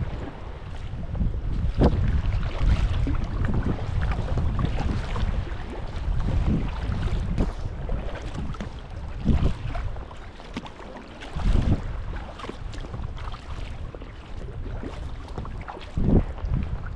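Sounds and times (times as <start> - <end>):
paddle splashes: 0.0 - 16.9
paddle strokes in water: 0.0 - 16.9
wind buffeting microphone: 0.0 - 16.9.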